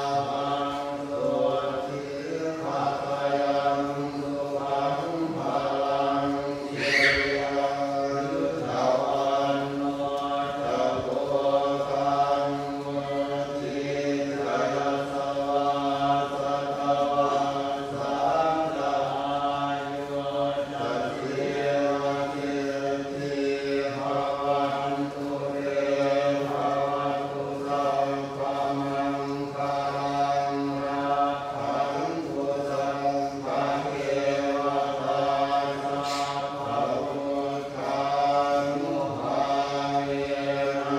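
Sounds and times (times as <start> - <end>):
monks chanting: 0.0 - 40.9.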